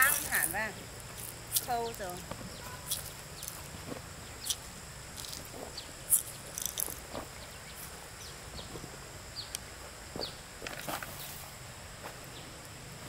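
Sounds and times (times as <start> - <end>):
faint high-pitched hum: 0.0 - 13.0.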